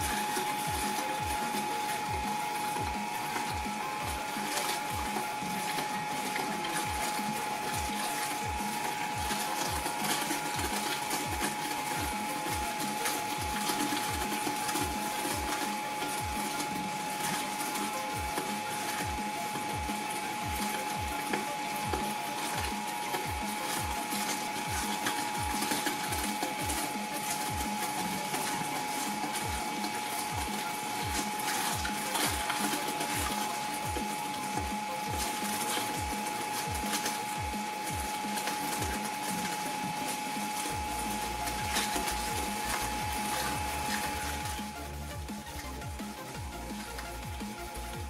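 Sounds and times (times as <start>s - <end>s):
shredder motor whine: 0.0s - 48.0s.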